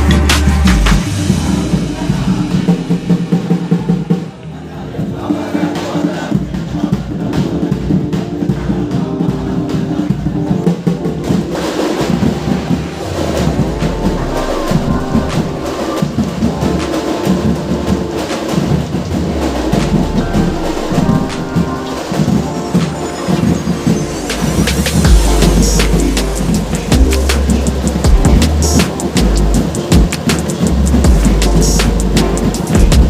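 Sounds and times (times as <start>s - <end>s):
music with fast heavy drumming: 0.0s - 33.0s.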